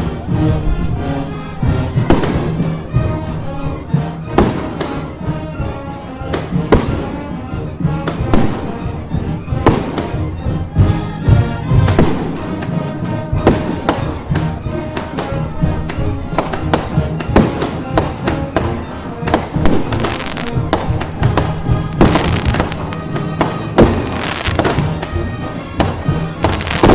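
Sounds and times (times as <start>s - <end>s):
festival music: 0.0s - 26.9s
firecrackers banging: 1.5s - 5.2s, 6.3s - 9.0s, 9.6s - 10.3s, 11.3s - 26.9s.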